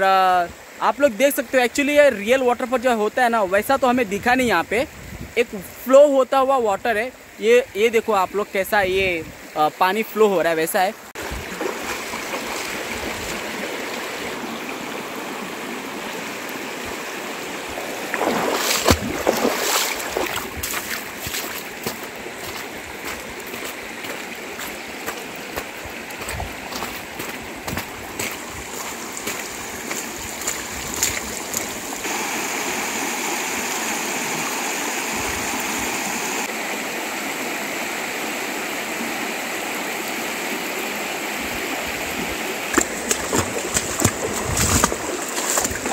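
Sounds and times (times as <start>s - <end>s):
river rushing over stones: 0.0s - 45.9s.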